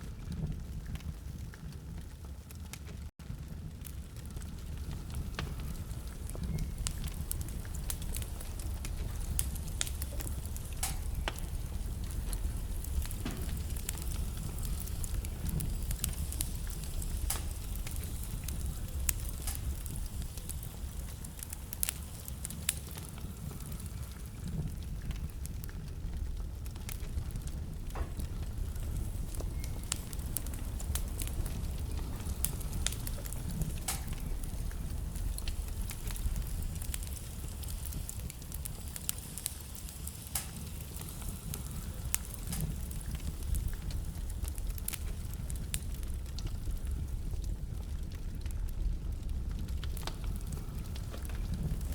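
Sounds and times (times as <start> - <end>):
fire crackling and popping: 0.0 - 51.9
low rumble of flames: 0.0 - 51.9.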